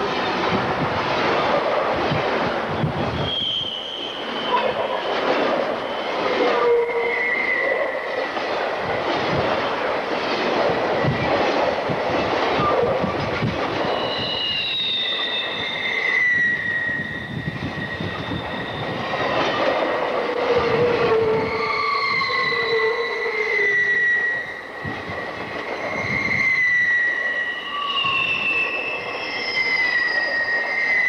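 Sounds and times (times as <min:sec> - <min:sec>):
steel wheels squealing on track: 0:00.0 - 0:09.9, 0:10.7 - 0:31.0.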